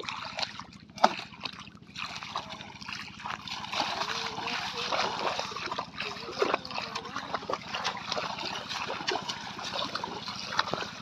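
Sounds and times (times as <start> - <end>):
feet splashing through water: 0.0 - 11.0
water trickling: 0.0 - 11.0.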